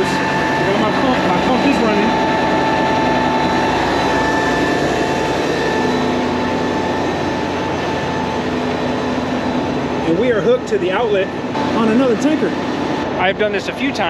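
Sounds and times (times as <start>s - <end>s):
pump droning with whine: 0.0s - 14.0s.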